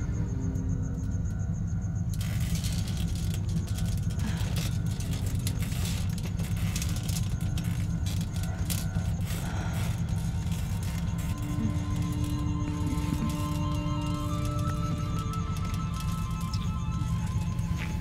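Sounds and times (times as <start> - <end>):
low steady drone: 0.0 - 18.0
dense crackling rattling noise: 2.0 - 18.0.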